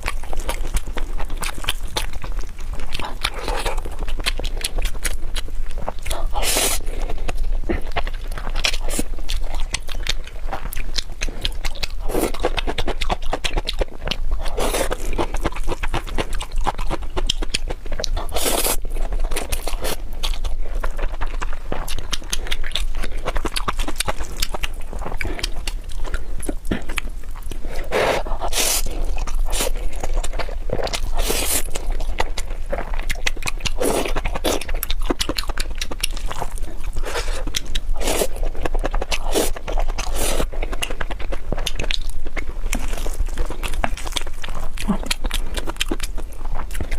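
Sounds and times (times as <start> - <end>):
chewing and biting: 0.0 - 46.9.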